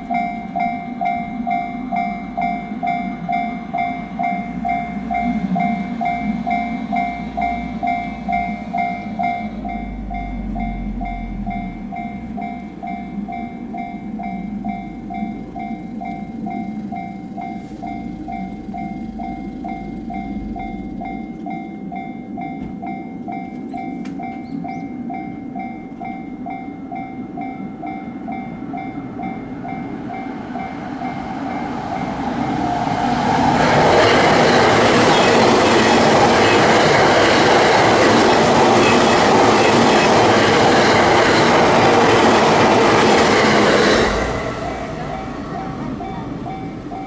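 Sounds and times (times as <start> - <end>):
level crossing alarm ringing: 0.0 - 47.0
train passing with wheel noise: 0.0 - 47.0.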